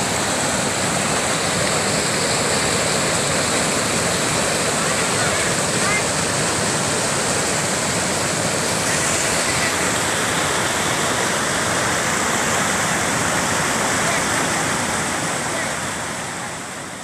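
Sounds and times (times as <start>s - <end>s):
rapids rushing over boulders: 0.0s - 17.0s.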